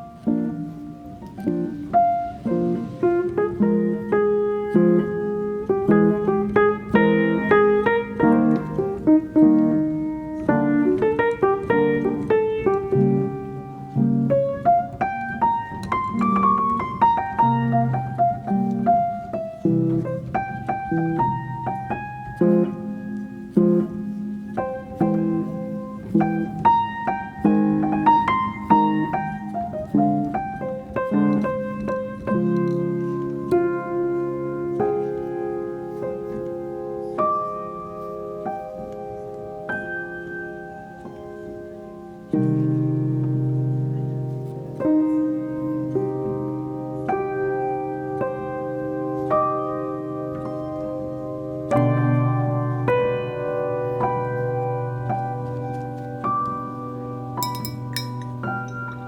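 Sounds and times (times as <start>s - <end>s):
piano melody over chords: 0.0s - 59.0s.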